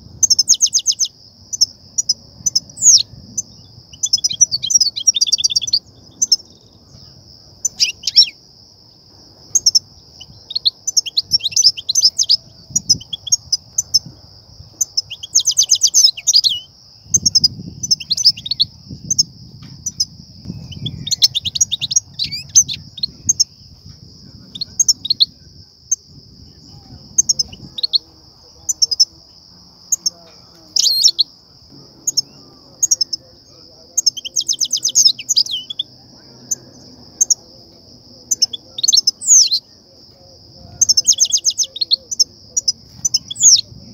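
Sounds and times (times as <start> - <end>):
goldfinches twittering chirps: 0.1 - 43.9.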